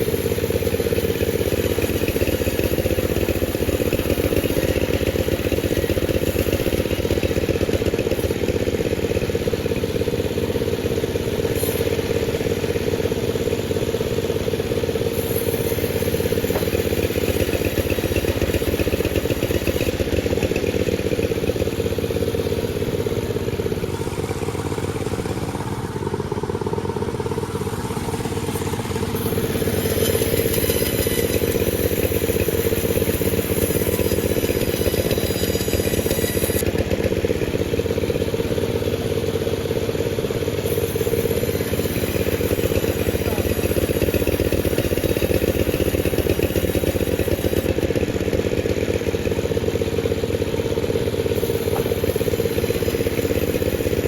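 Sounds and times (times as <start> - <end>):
chainsaw sawing a log: 0.0 - 54.0.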